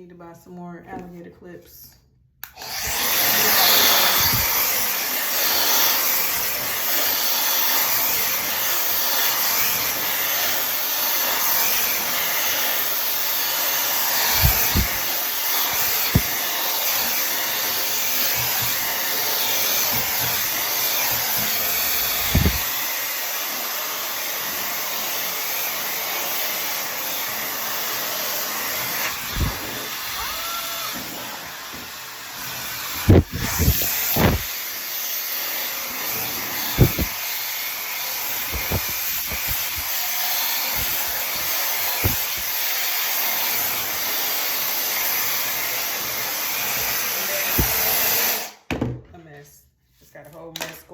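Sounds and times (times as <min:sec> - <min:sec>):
hair dryer blowing air: 0:02.4 - 0:48.7.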